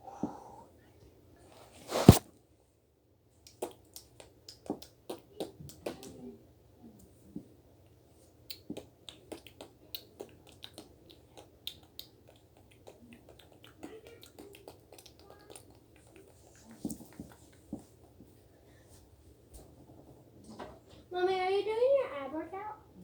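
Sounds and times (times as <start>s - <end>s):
low room background: 0.0s - 23.0s.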